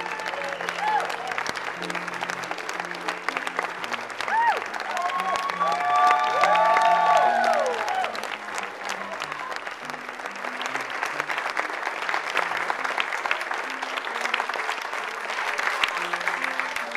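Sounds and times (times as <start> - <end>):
audience applauding: 0.0 - 16.9
soft music: 0.0 - 16.9.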